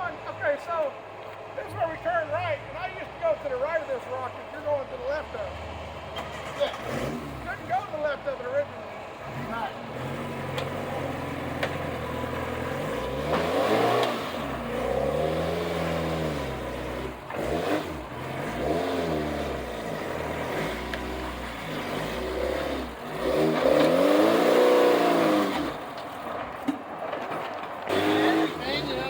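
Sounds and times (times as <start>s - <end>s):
off-road vehicle engine revving: 0.0s - 26.7s, 27.3s - 29.0s.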